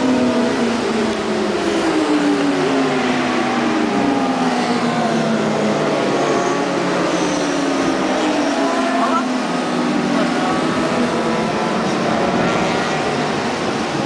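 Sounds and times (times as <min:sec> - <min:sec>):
motorcycle engines at speed: 0:00.0 - 0:14.0.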